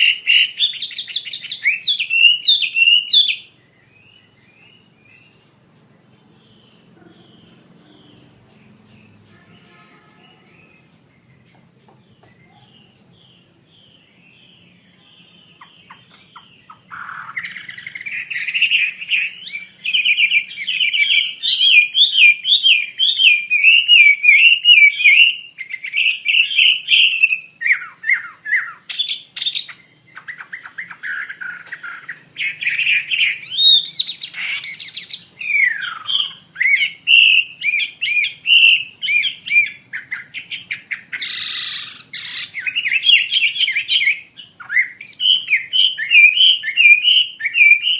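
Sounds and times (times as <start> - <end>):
bird singing warbled trills: 0.0 - 47.9
faint bird calls: 0.0 - 47.9.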